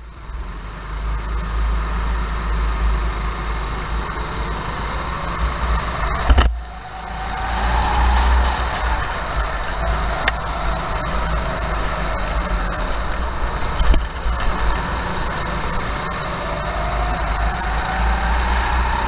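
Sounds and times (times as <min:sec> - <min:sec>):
kart engine running: 0:00.0 - 0:19.0
heavy low rumble: 0:02.6 - 0:19.0.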